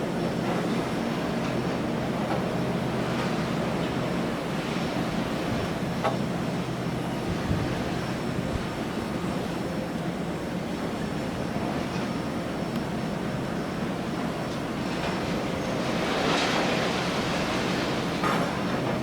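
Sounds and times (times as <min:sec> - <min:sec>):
rush of water: 0:00.0 - 0:19.0
ship engine drone: 0:00.0 - 0:19.0
waves washing: 0:00.0 - 0:19.0
wind: 0:00.0 - 0:19.0.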